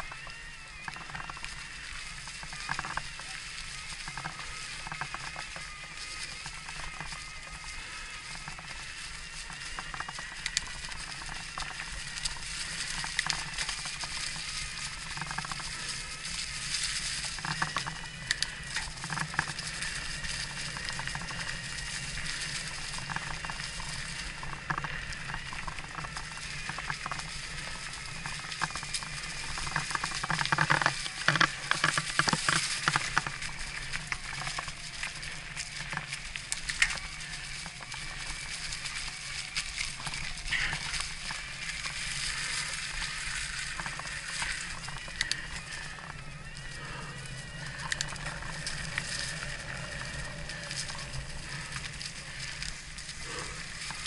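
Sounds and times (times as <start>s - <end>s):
bike drivetrain clicks and rattles: 0.0s - 54.0s
electric motor whine: 0.0s - 54.0s
tyres crackling over stones: 0.0s - 54.0s.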